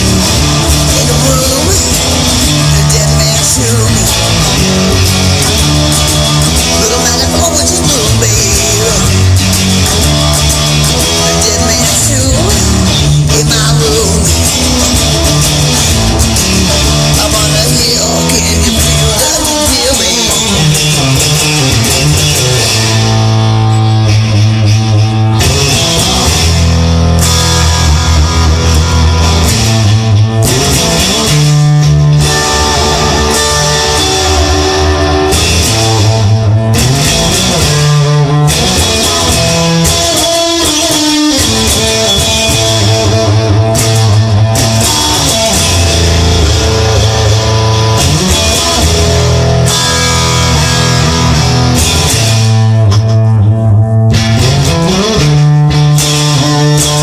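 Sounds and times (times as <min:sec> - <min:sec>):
instrumental rock music: 0:00.0 - 0:57.0.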